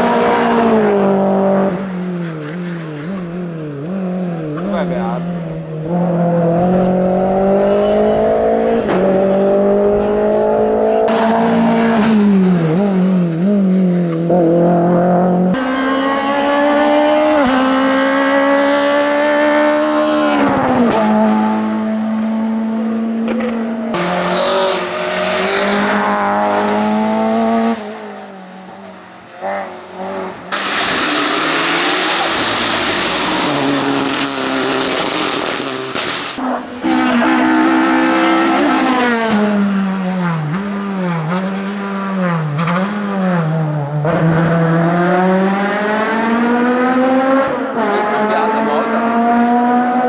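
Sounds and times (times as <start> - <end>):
race car engines at full throttle: 0.0 - 50.0.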